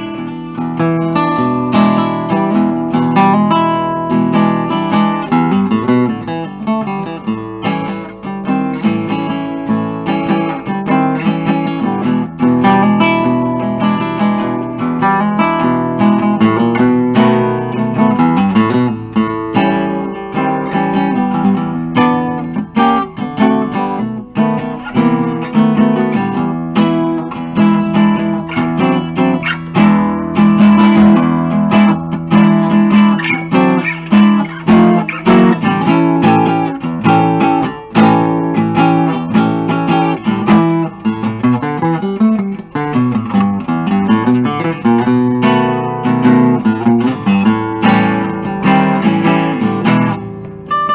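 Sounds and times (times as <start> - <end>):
acoustic guitar strumming and picking: 0.0 - 50.9.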